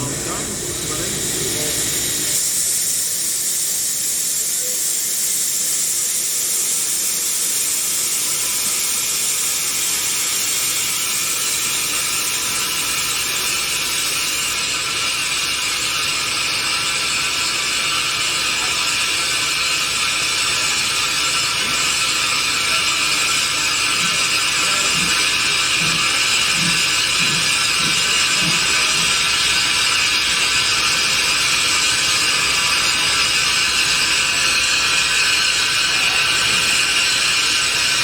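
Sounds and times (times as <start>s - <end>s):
steam locomotive venting steam: 0.0s - 38.0s.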